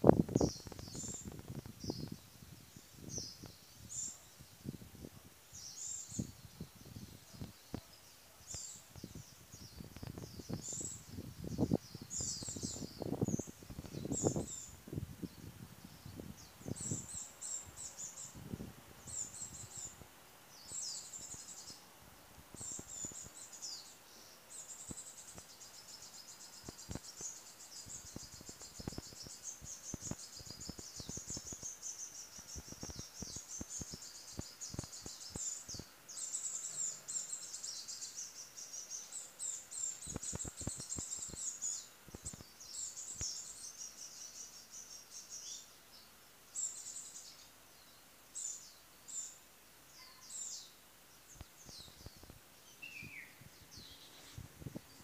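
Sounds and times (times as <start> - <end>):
small birds twittering: 0.0 - 55.0.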